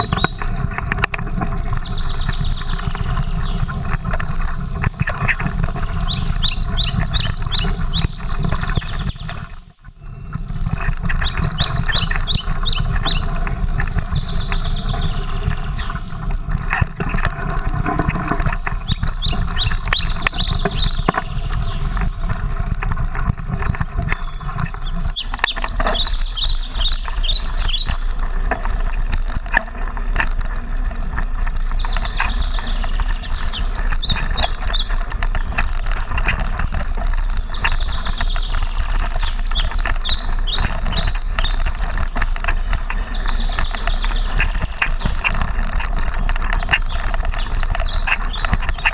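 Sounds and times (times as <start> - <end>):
high chirping: 0.0 - 28.2, 29.6 - 48.9
bike rattling and knocking: 0.0 - 48.9
wind noise on microphone: 0.0 - 48.9.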